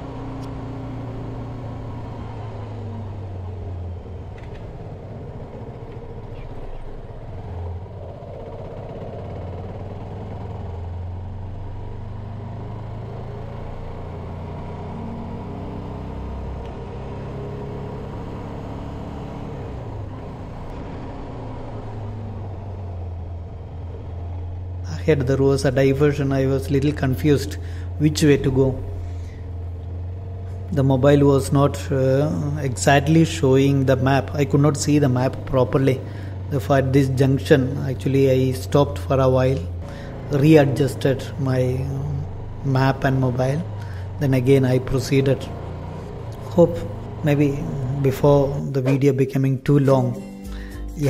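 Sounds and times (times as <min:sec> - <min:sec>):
motorcycle engine running: 0:00.0 - 0:15.6, 0:16.6 - 0:49.0.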